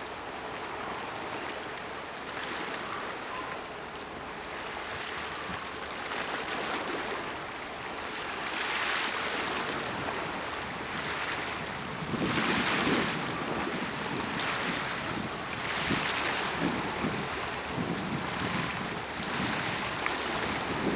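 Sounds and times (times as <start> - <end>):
water lapping: 0.0 - 20.9.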